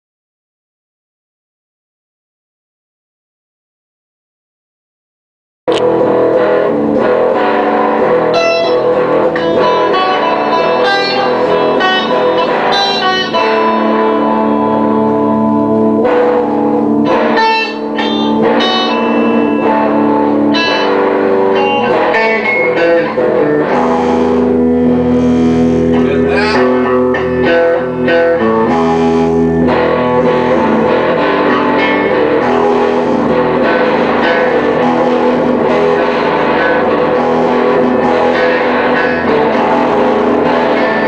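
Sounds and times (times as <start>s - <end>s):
band with electric guitars: 5.7s - 41.0s.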